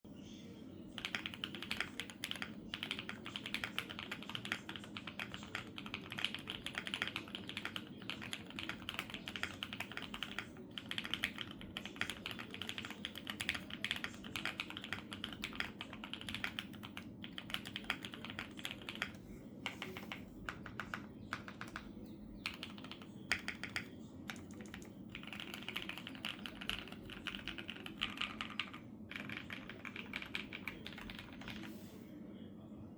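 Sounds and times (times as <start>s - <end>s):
mechanical keyboard typing: 1.0s - 31.7s.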